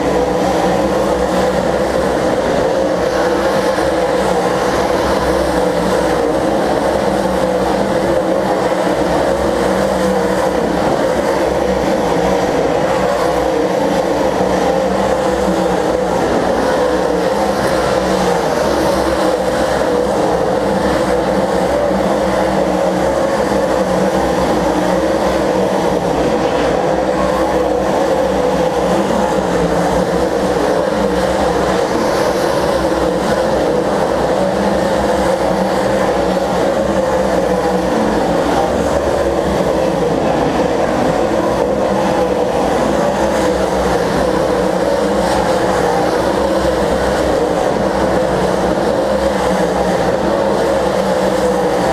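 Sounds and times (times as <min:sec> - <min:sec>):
racing car engines droning: 0:00.0 - 0:51.9.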